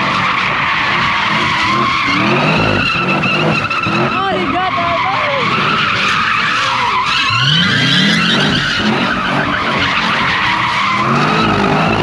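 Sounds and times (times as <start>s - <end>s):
car engines revving: 0.0s - 12.0s
car tires squealing: 0.0s - 12.0s.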